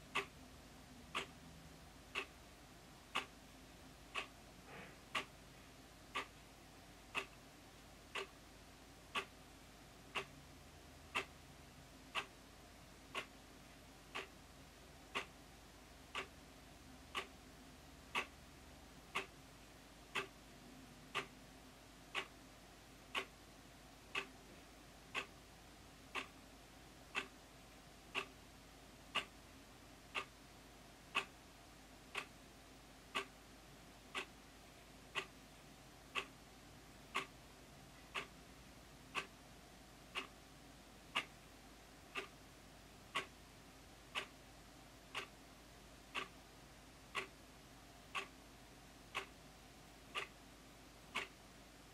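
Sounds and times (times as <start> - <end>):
wall clock ticking: 0.0 - 5.4, 6.1 - 8.4, 9.0 - 26.4, 27.0 - 51.9.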